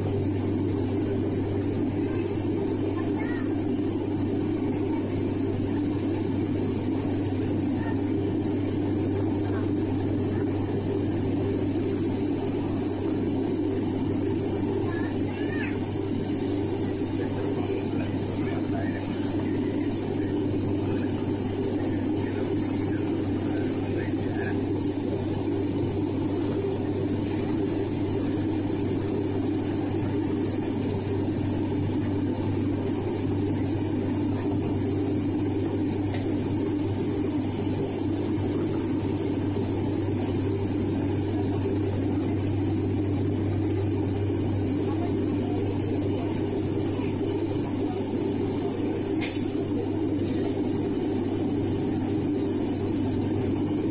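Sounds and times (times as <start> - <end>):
jet engines droning: 0.0 - 53.9
low hum: 0.0 - 53.9.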